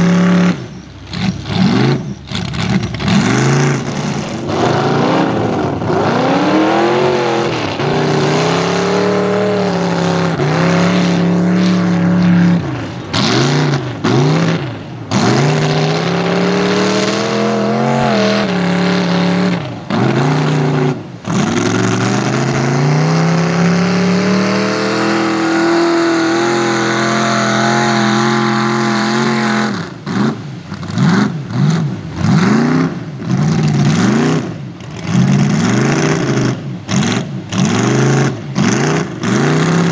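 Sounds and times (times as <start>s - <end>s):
tires slinging mud and water: 0.0s - 39.9s
truck engine revving: 0.0s - 39.9s.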